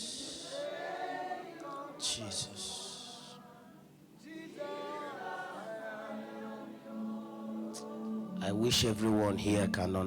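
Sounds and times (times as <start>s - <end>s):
voices singing worship song: 0.0s - 10.0s.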